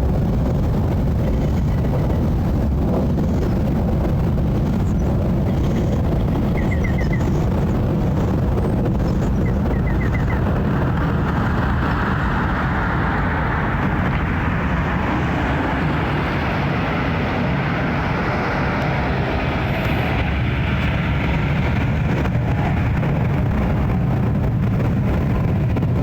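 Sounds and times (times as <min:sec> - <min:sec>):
jet airliner roar: 0:00.0 - 0:26.0.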